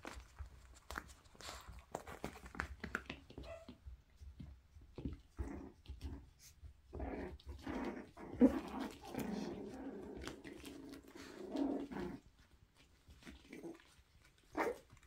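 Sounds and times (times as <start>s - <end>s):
puppies play-growling: 0.0s - 15.0s.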